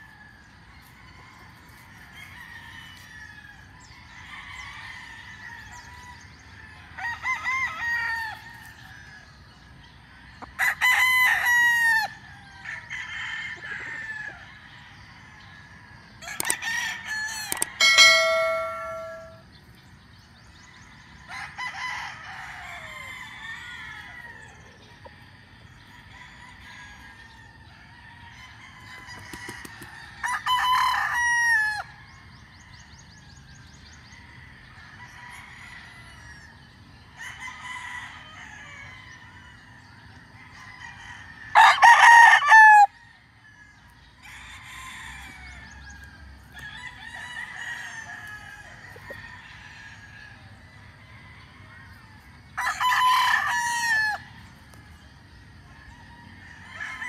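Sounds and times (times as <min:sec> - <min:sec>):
roosters crowing: 0:00.0 - 0:57.0.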